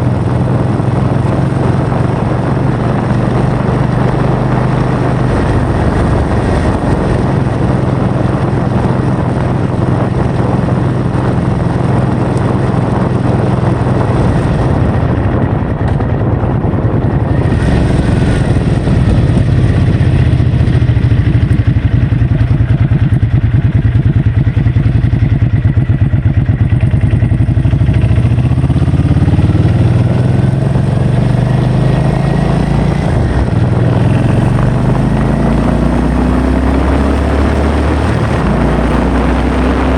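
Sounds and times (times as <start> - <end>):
engine running: 0.0 - 39.9
wind noise on microphone: 0.0 - 39.9.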